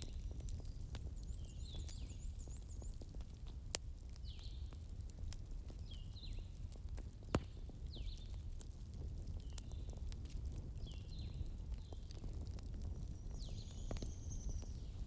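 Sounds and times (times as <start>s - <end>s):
small birds chirping: 0.0s - 8.6s, 9.2s - 15.0s
campfire crackling and popping: 0.0s - 15.0s.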